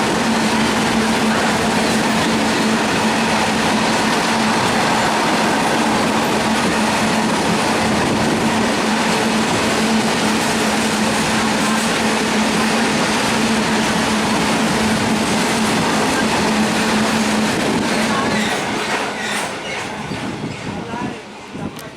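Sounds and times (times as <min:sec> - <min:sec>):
train wheels on rail: 0:00.0 - 0:21.9.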